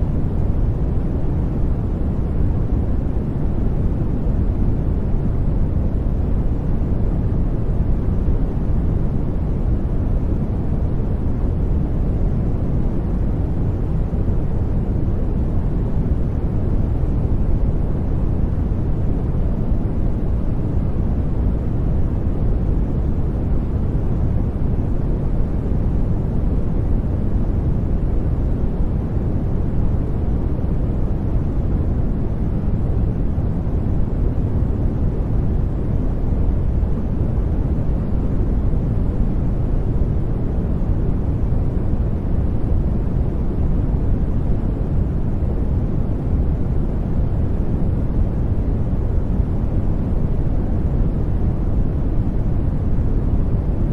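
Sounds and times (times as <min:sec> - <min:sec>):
brown noise hiss: 0:00.0 - 0:53.9.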